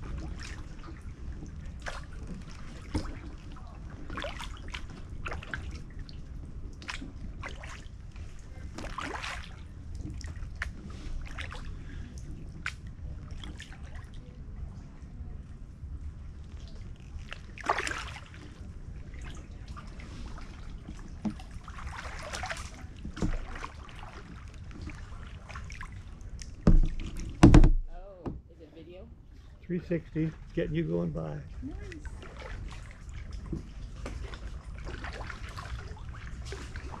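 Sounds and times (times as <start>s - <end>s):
paddle splashes: 0.0s - 14.6s, 16.2s - 28.5s, 29.3s - 37.0s.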